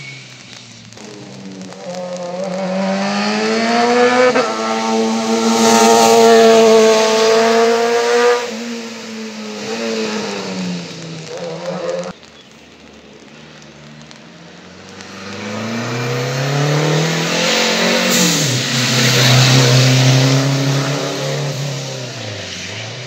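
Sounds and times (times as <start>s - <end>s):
race car engine revving: 0.0s - 12.2s, 14.8s - 23.0s.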